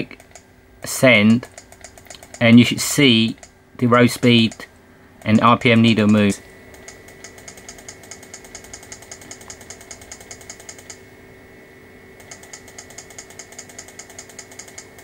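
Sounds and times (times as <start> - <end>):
rapid even ticking: 0.0 - 11.0, 12.2 - 15.0
faint electrical whine: 0.0 - 15.0.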